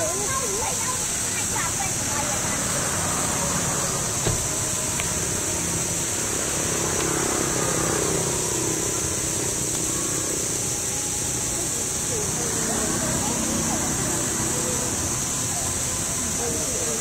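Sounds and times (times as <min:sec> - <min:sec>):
faint engine hum: 0:00.0 - 0:17.0
high hiss: 0:00.0 - 0:17.0.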